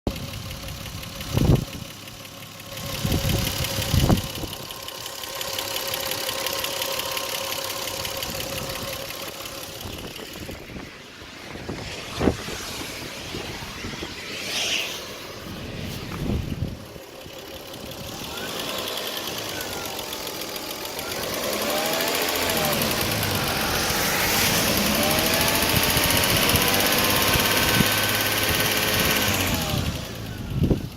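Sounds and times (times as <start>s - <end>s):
car engine ticking: 0.1s - 14.1s, 15.1s - 30.9s.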